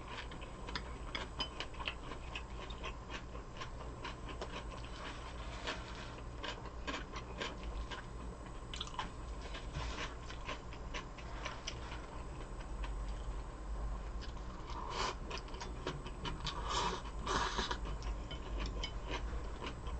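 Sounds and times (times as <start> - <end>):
person chewing food: 0.0 - 19.9
steady low hum: 0.0 - 19.9.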